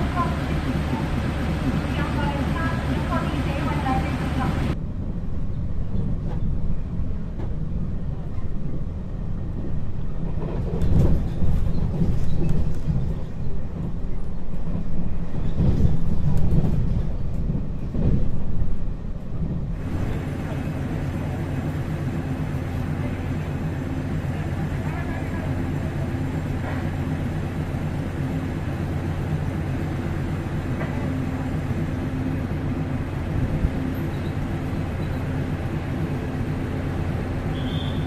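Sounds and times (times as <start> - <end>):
train rumbling on rails: 0.0 - 38.0.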